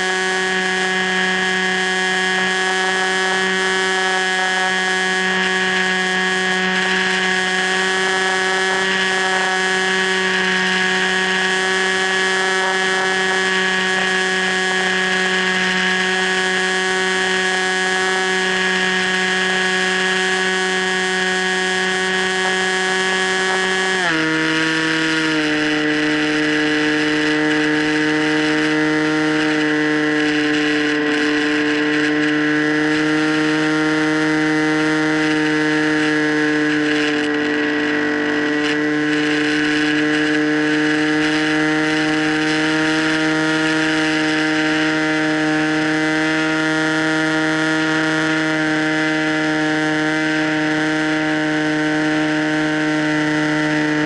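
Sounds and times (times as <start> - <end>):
model plane motor and propeller: 0.0 - 54.0.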